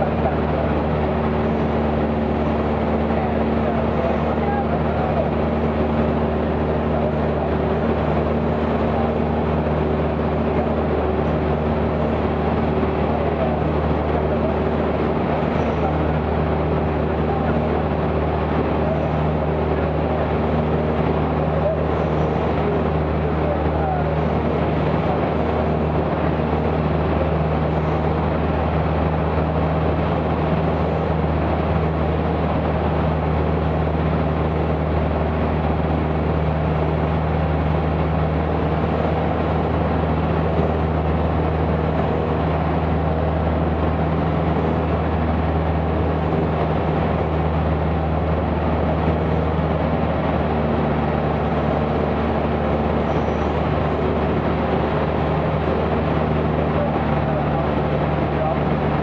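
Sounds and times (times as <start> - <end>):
airplane engine drone: 0.0 - 59.0.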